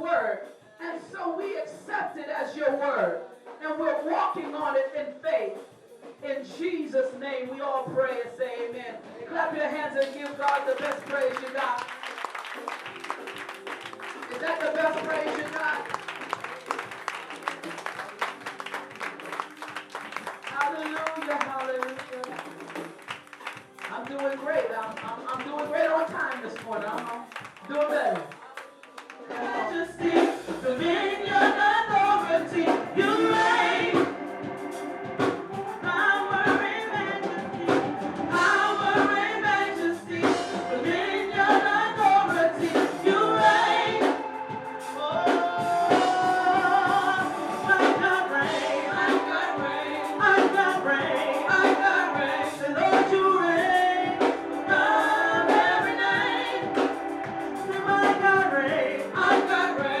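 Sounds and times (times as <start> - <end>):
instrumental accompaniment with beat: 0.0 - 60.0
gospel choir singing: 6.9 - 26.9, 27.7 - 60.0.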